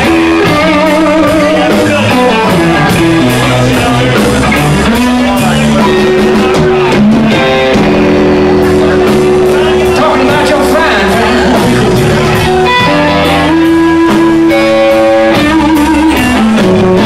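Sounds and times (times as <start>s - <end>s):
drums: 0.0s - 17.0s
electric guitar lead with bent notes: 0.0s - 17.0s
second electric guitar: 0.0s - 17.0s.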